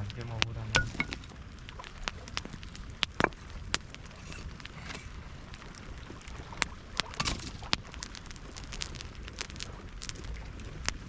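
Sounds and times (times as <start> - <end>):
campfire crackling and popping: 0.0 - 11.0
wind rumble on microphone: 0.0 - 11.0.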